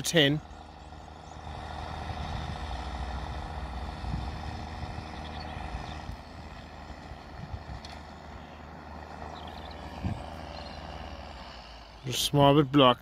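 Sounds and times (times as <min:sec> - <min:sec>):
tractor diesel engine rumbling: 0:00.0 - 0:13.0.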